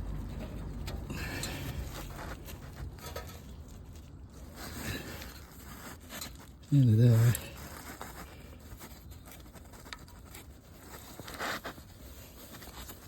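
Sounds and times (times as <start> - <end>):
metal and rubber scraping: 0.0 - 13.0.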